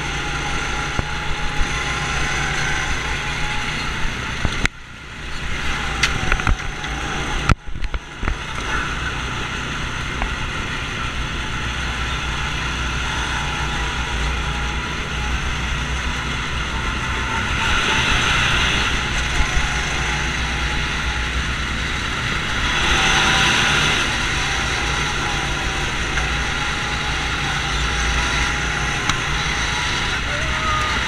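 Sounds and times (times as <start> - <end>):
go-kart engines running: 0.0 - 31.0.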